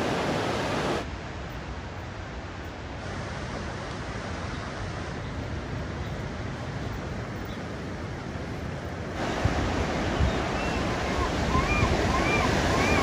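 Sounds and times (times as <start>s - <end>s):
ocean surf: 0.0s - 13.0s
wind: 0.0s - 13.0s.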